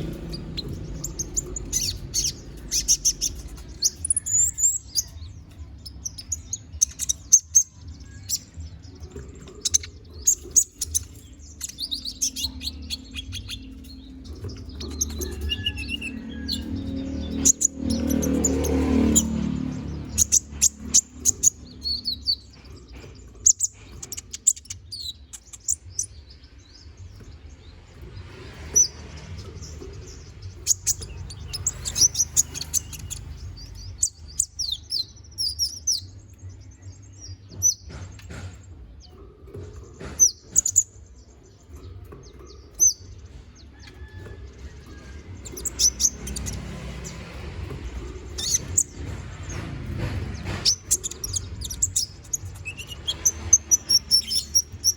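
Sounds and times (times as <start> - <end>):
sunbird chirping and trilling: 0.0 - 54.9.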